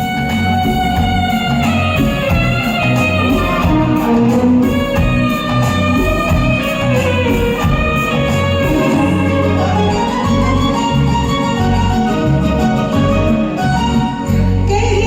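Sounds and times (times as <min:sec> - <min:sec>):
instrumental karaoke backing track: 0:00.0 - 0:15.0.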